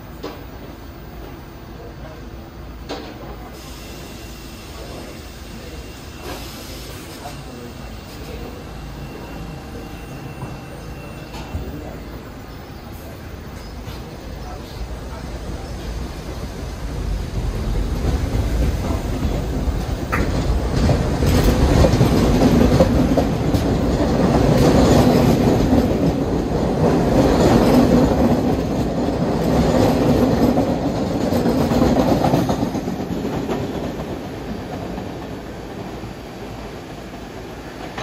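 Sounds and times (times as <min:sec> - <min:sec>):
subway train running past: 0:00.0 - 0:38.0.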